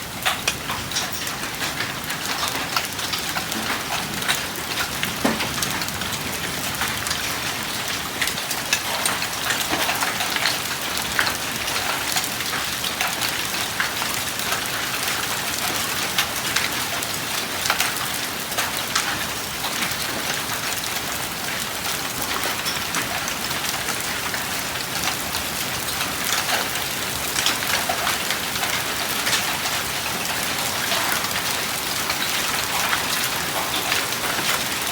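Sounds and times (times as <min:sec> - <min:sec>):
heavy rain downpour: 0:00.0 - 0:34.9
hailstones striking hard surfaces: 0:00.1 - 0:34.9.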